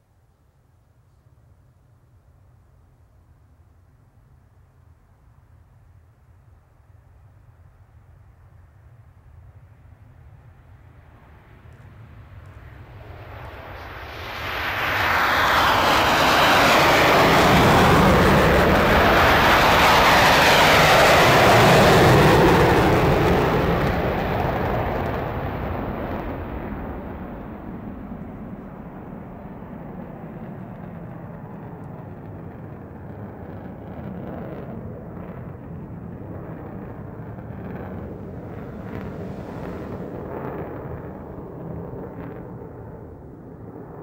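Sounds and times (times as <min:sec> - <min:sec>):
jet engines in afterburner: 0:06.5 - 0:44.0.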